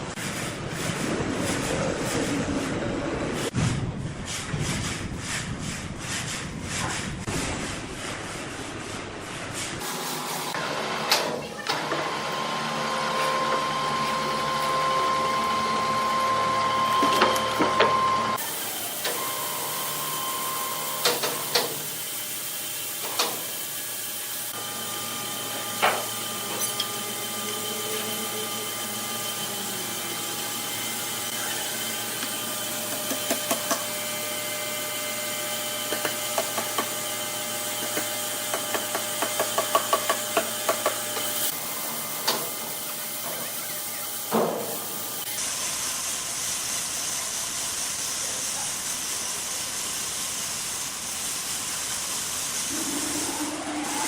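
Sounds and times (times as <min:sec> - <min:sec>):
woodworking machinery humming: 0:07.3 - 0:54.0.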